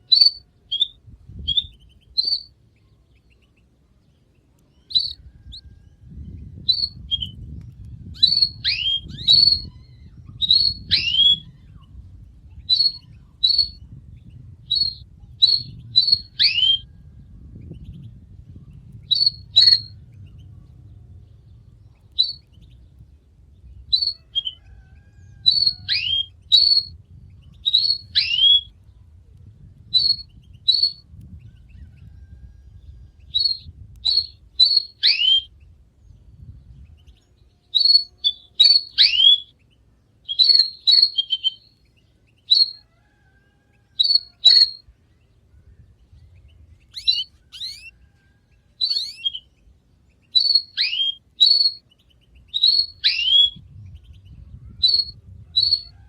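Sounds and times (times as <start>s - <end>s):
canary singing: 0.0s - 16.9s, 17.6s - 20.5s, 21.2s - 23.0s, 23.7s - 28.8s, 29.9s - 35.7s, 36.8s - 45.0s, 45.8s - 56.0s
faint low rumble: 0.0s - 42.8s, 44.8s - 50.5s, 51.2s - 56.0s.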